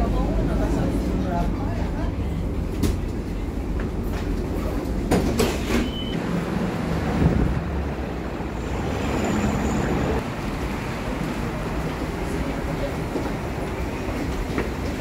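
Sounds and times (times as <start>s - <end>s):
tram rumble: 0.0s - 15.0s.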